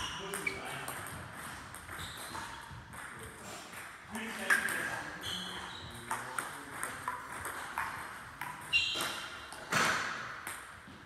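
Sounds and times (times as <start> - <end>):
table tennis ball rally: 0.0 - 10.9.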